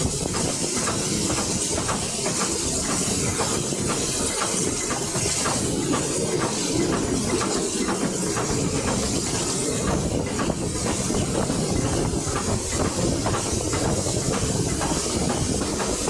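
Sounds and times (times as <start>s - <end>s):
steam hiss: 0.0s - 16.0s
train coaches rumbling on track: 0.0s - 16.0s.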